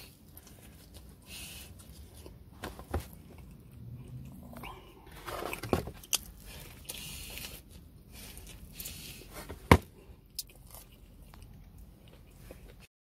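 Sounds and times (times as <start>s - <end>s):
person chewing food: 0.0s - 2.5s, 3.1s - 12.9s.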